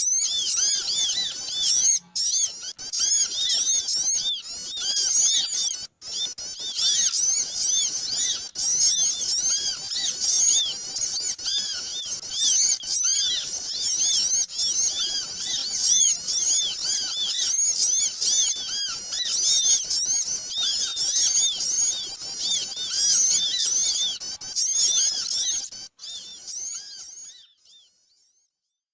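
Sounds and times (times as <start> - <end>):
chorus of small birds chirping: 0.0 - 28.8.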